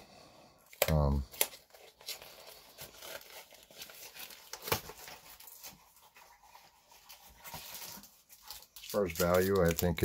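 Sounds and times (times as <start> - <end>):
card packaging crinkling and tearing: 0.7 - 10.0.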